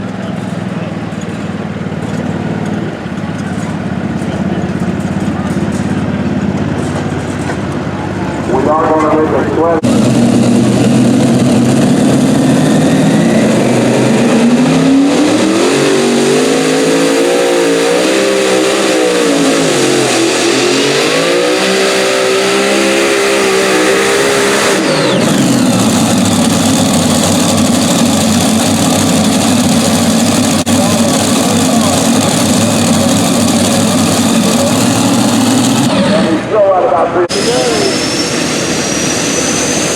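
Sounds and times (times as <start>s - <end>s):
tractor engine at full throttle: 0.0s - 39.9s.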